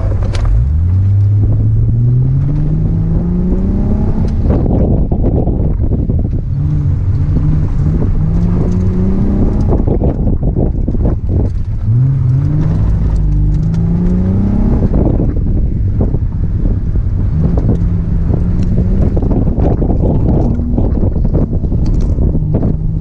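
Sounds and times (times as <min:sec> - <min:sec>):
car engine accelerating: 0:00.0 - 0:23.0
wind buffeting microphone: 0:00.0 - 0:23.0.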